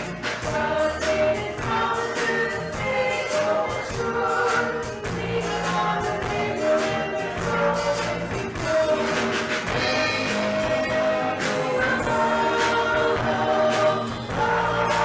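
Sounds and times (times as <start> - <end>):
women singing worship song: 0.0 - 15.0.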